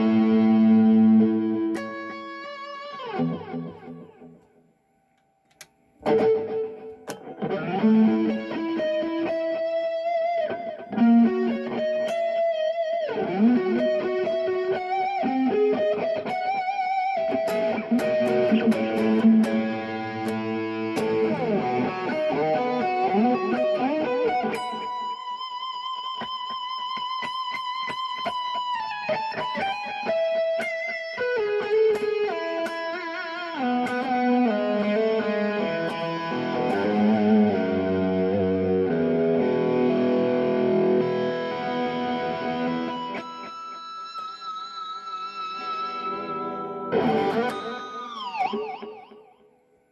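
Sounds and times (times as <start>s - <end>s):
electric guitar lead with vibrato: 0.0s - 4.4s, 6.0s - 49.5s.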